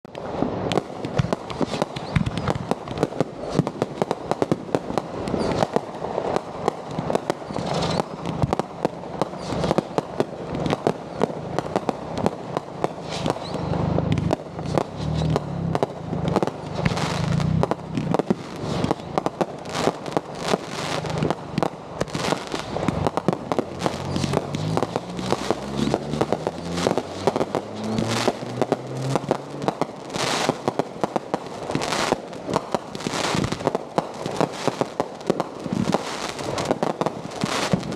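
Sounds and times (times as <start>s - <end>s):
fireworks popping and crackling: 0.0s - 37.9s.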